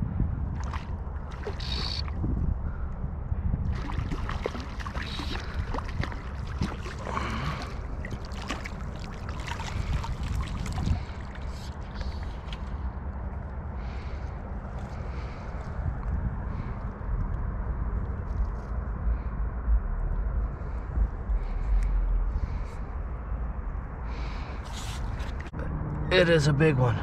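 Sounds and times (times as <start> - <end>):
wind rumble on microphone: 0.0 - 26.1
water splashing and sloshing: 0.4 - 2.8, 3.5 - 23.4, 24.0 - 25.6.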